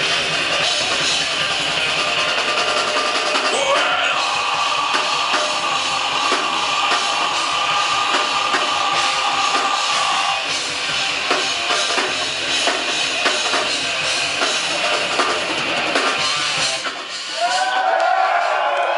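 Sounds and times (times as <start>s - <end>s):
rapid drum strikes: 0.0s - 17.7s
live band playing loudly: 0.0s - 18.9s.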